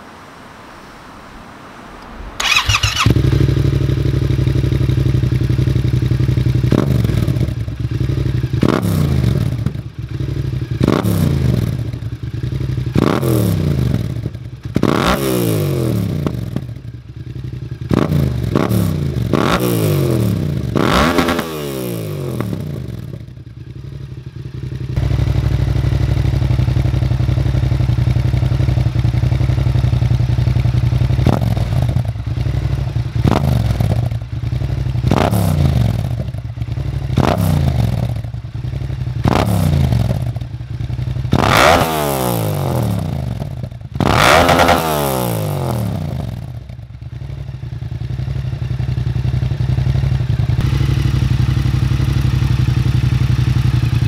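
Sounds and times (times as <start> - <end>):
motorcycle throttle blips: 1.9 - 54.0
motorcycle engine idling: 2.4 - 14.9, 16.0 - 19.4, 22.1 - 41.7, 42.4 - 44.1, 46.1 - 54.0.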